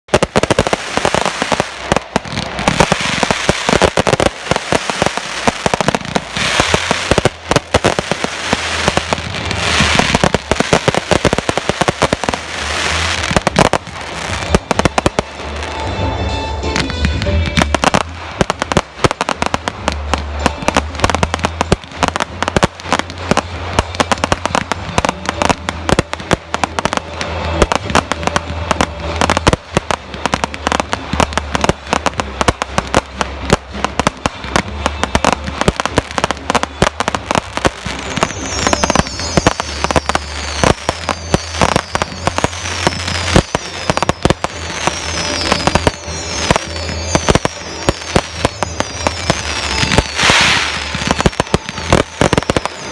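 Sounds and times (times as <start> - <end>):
fireworks bangs and crackling: 0.0 - 52.9
falling fireworks whistles: 0.1 - 52.9.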